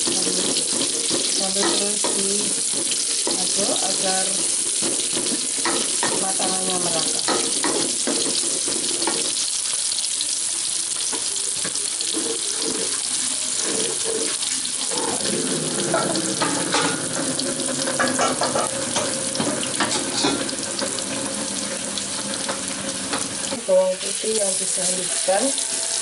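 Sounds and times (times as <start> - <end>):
wooden spatula scraping a wok: 0.0 - 9.5, 12.1 - 23.6
vegetables sizzling in hot oil: 0.0 - 26.0.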